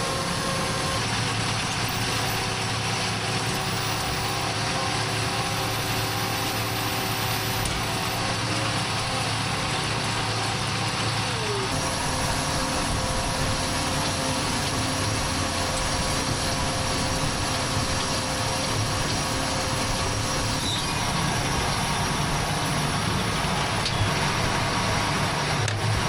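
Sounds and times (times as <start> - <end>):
tractor engine drone: 0.0 - 26.0.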